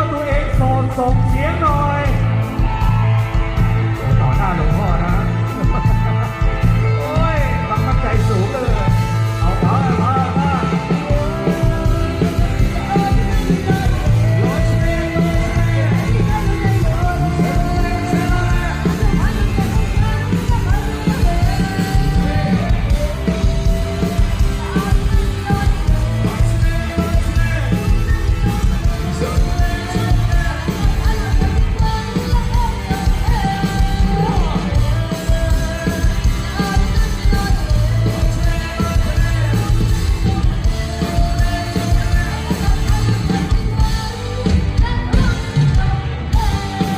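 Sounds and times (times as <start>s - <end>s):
amplified live band music: 0.0s - 46.9s.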